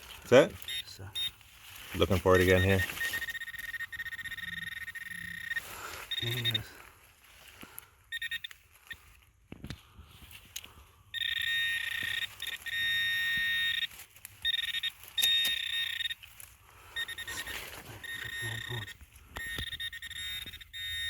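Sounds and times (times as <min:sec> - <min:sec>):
digging scraping and rustling: 0:00.0 - 0:19.7
metal detector high tone: 0:00.3 - 0:06.8, 0:08.1 - 0:09.1, 0:11.1 - 0:21.0.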